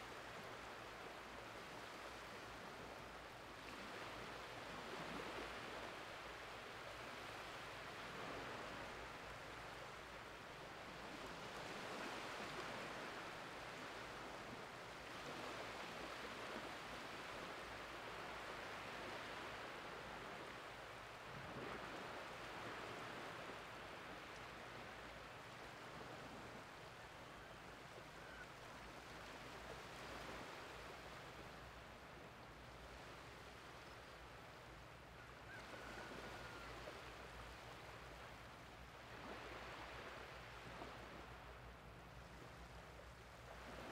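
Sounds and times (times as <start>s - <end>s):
small waves washing on beach: 0.0s - 43.9s.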